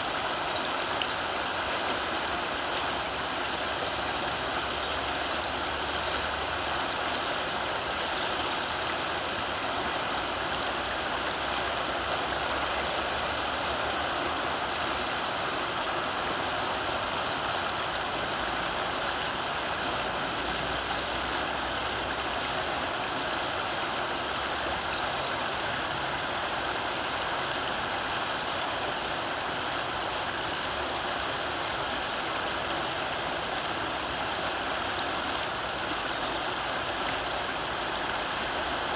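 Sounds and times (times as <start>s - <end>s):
river water running: 0.0s - 38.9s.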